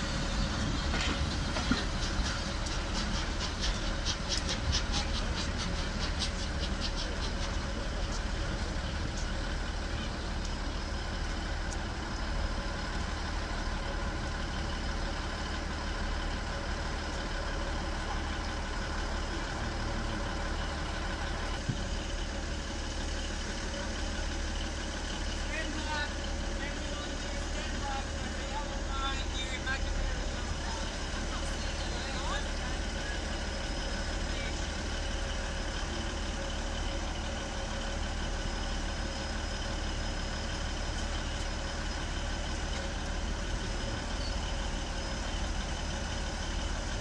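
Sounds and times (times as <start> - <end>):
train low rumble: 0.0 - 47.0
train wheels clicking over rail joints: 0.0 - 47.0.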